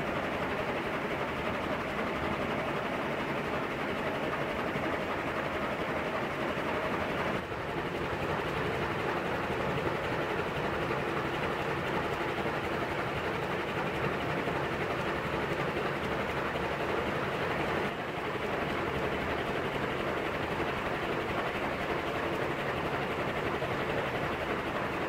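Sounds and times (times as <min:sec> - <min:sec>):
ceiling fan running: 0:00.0 - 0:25.0.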